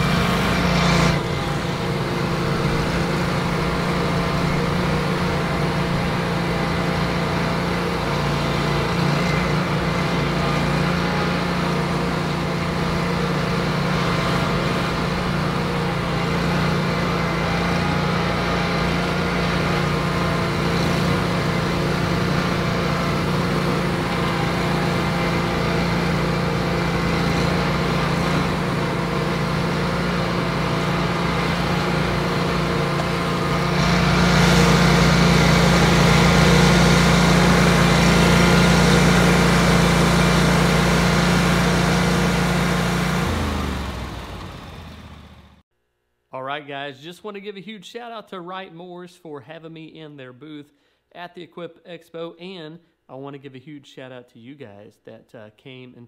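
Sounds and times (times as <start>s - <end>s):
mower engine running: 0.0s - 45.6s.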